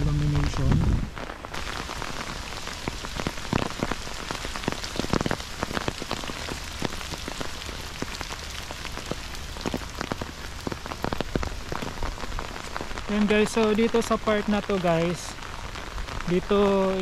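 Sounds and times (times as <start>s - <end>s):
rain drops on umbrella: 0.0s - 17.0s.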